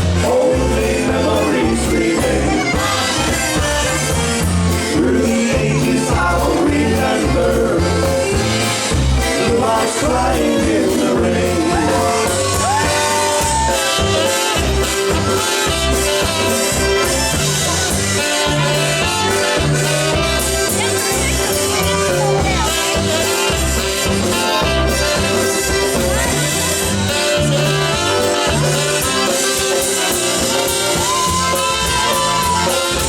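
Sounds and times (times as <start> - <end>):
person singing: 0.0 - 8.6, 9.2 - 16.4, 17.8 - 33.0
bass alternating two notes: 0.0 - 33.0
polka band playing: 0.0 - 33.0.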